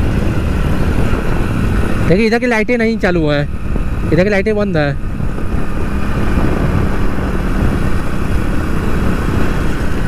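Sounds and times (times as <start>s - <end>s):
motorcycle engine hum: 0.0s - 10.0s
road and wind noise: 0.0s - 10.0s.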